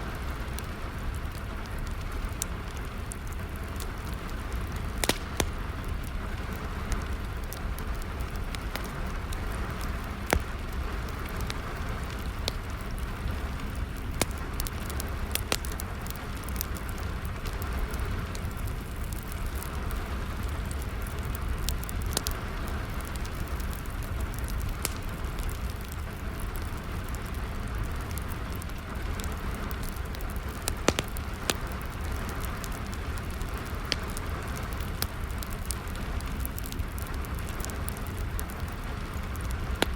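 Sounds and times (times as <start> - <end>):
rain falling: 0.0 - 39.9
wood fire crackling and popping: 0.0 - 39.9.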